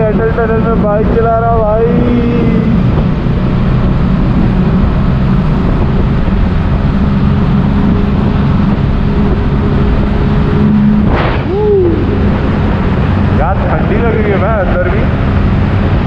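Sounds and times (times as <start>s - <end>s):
motorcycle engine cruising: 0.0s - 16.0s
road noise in tunnel: 0.0s - 16.0s.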